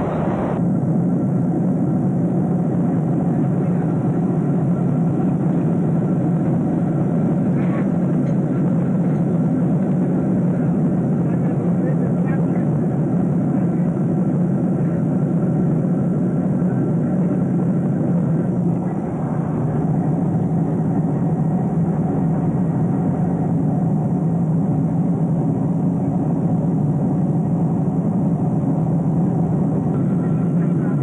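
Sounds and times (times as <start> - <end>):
airliner cabin noise: 0.0 - 31.0.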